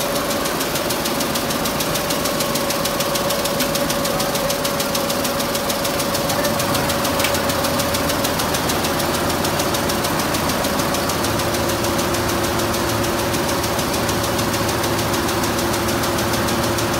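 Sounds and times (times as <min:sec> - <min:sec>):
mechanical hum: 0:00.0 - 0:16.9
quilting machine needles ticking: 0:00.0 - 0:16.9.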